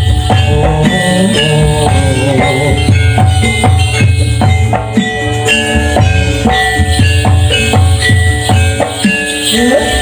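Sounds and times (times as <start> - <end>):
drums beating: 0.0 - 10.0
jingling: 0.0 - 10.0
ringing metal percussion: 0.0 - 10.0.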